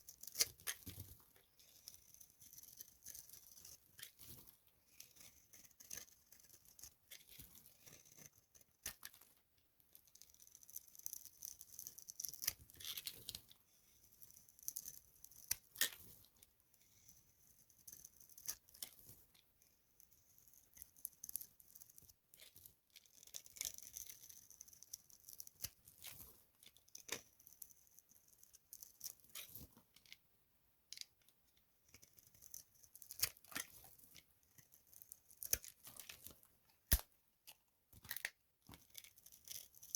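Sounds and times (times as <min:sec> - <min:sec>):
dry soap crackling and crunching: 0:00.1 - 0:09.4, 0:10.0 - 0:19.2, 0:20.2 - 0:30.2, 0:31.0 - 0:39.9.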